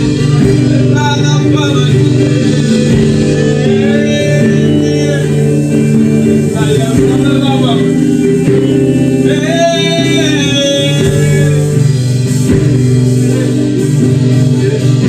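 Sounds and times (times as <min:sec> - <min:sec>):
person singing: 0:00.0 - 0:15.0
worship music with guitar: 0:00.0 - 0:15.0.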